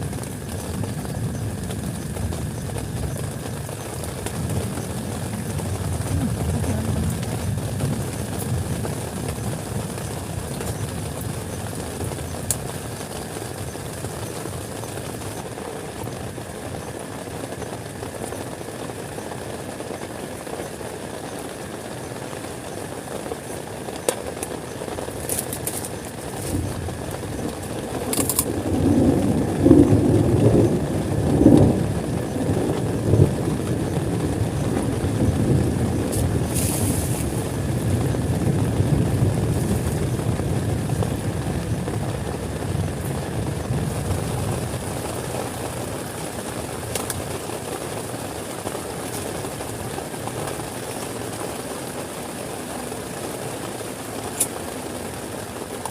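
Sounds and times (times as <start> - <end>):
thunder rumbling and cracking: 0.0 - 52.2
heavy rain hissing: 0.0 - 55.9.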